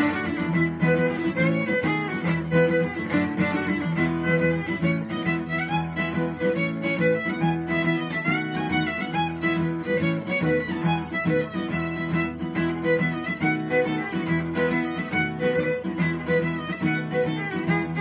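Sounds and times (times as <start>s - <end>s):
fiddle playing quick notes: 0.0s - 18.0s
strummed acoustic guitar: 0.0s - 18.0s.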